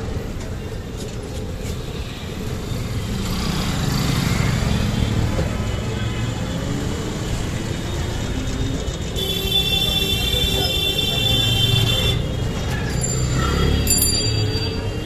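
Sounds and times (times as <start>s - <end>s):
scooters and motorcycles running: 0.0s - 15.0s
steady traffic hum: 0.0s - 15.0s.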